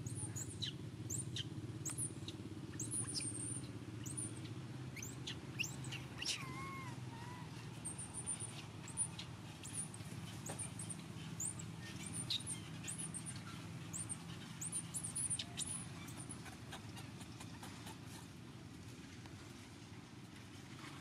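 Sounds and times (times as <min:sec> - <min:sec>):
small birds chirping: 0:00.0 - 0:18.3
low steady background hum: 0:00.0 - 0:21.0.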